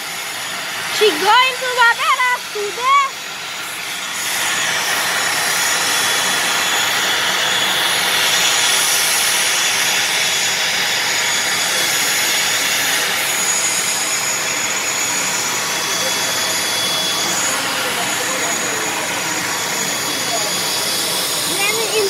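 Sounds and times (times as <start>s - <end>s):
turboprop engines whining: 0.0s - 22.0s.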